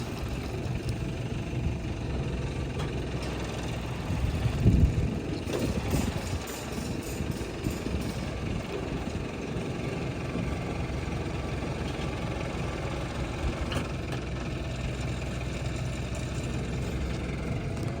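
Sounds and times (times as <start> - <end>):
loader engine idling: 0.0 - 18.0.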